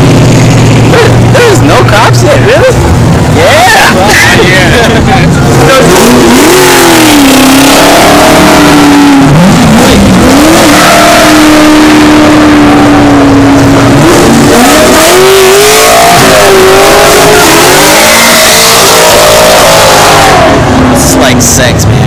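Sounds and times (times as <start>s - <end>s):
car engine revving in burnout: 0.0s - 22.0s.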